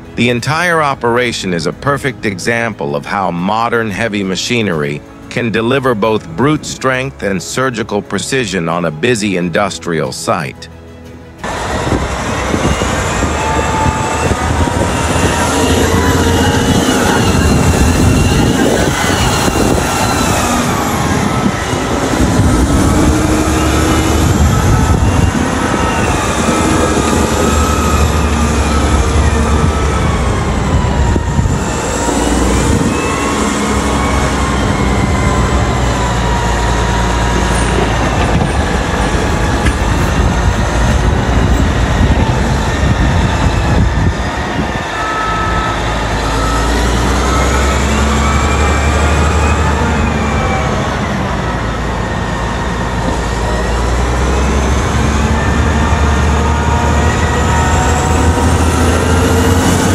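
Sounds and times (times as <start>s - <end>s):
wheel loader diesel engine: 10.6s - 59.9s.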